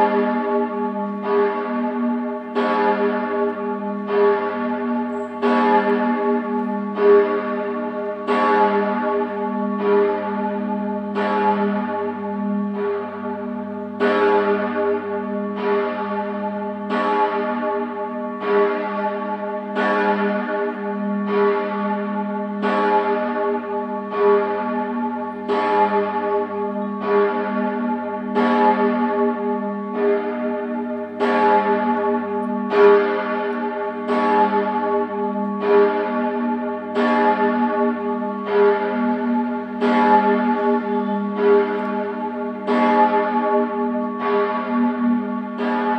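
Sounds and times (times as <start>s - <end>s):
large church bell ringing: 0.0s - 45.9s.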